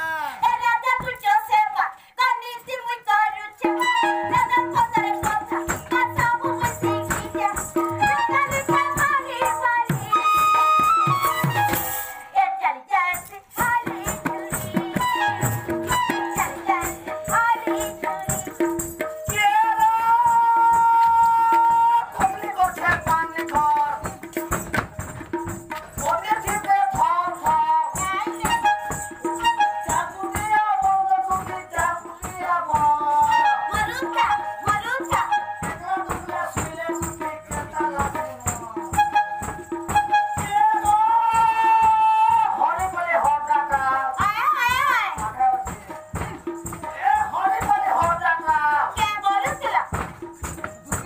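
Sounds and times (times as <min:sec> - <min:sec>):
jingling percussion: 0:00.0 - 0:51.0
drum strikes: 0:03.8 - 0:12.4, 0:13.2 - 0:51.0.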